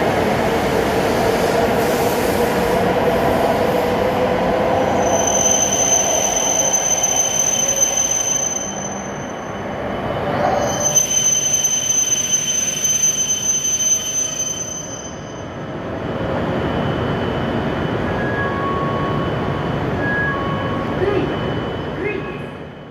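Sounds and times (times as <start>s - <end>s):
train rumbling: 0.0s - 22.9s
high-pitched whine: 3.9s - 22.9s.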